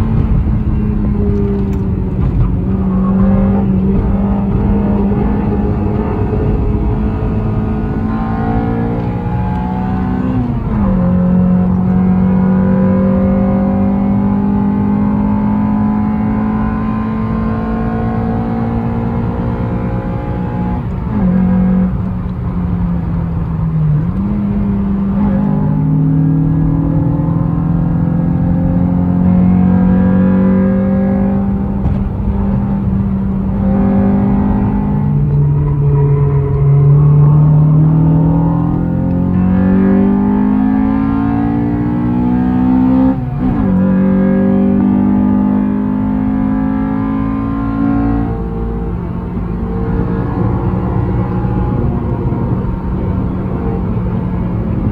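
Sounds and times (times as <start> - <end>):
car engine running hard: 0.0 - 54.9.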